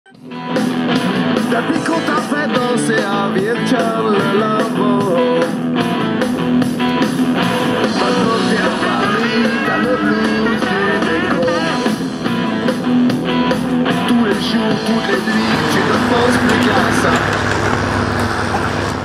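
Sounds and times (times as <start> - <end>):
guitar background music: 0.1 - 18.8.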